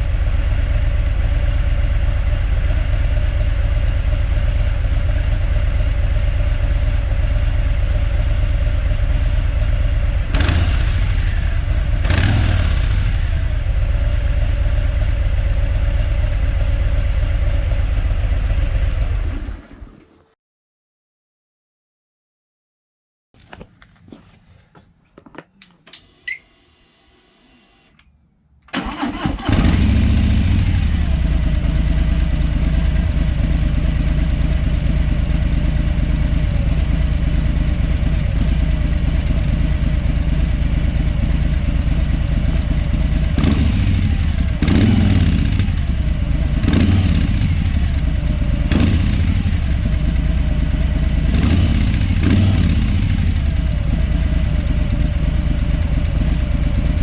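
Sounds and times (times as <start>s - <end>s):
motorcycle engine revving: 0.0s - 19.9s, 28.7s - 57.0s
motorcycle engine starting and idling: 0.0s - 20.4s, 25.7s - 57.0s.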